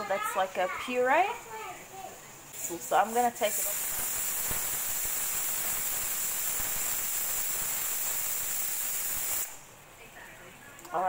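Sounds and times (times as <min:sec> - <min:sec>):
pressure cooker steam hissing: 0:00.1 - 0:09.7.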